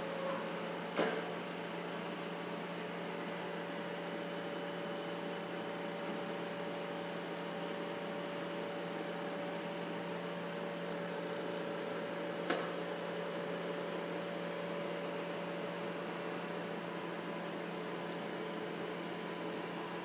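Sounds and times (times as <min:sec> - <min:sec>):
electrical hum of machinery: 0:00.0 - 0:20.0.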